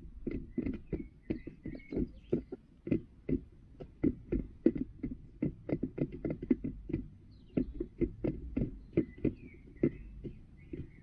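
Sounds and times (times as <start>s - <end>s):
hen pecking on plastic pan: 0.0s - 11.0s.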